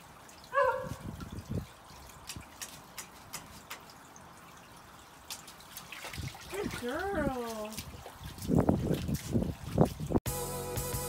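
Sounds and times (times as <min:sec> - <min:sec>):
water dripping and sloshing: 0:00.0 - 0:10.2
water trickling into pool: 0:00.0 - 0:10.2.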